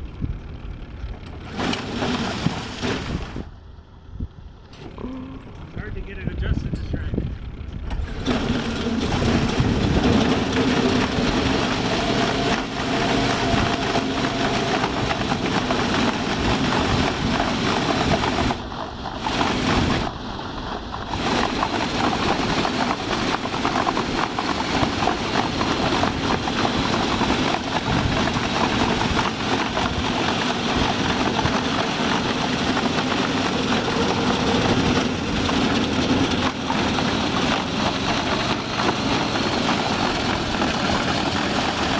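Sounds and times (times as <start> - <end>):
small engine running: 0.0 - 3.5, 4.8 - 41.9
paddle wheel splashing water: 1.4 - 3.5, 8.0 - 41.9.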